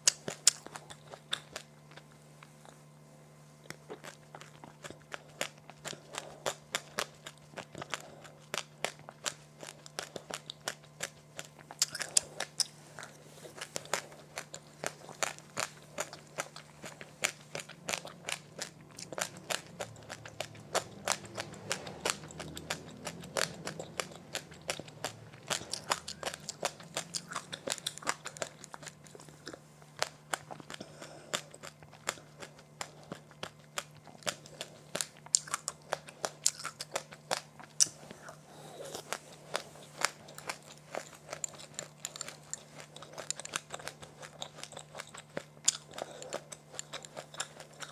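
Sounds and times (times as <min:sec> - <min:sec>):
crunchy snack chewing: 0:00.0 - 0:02.9, 0:03.6 - 0:47.9
faint steady hum: 0:00.0 - 0:47.9.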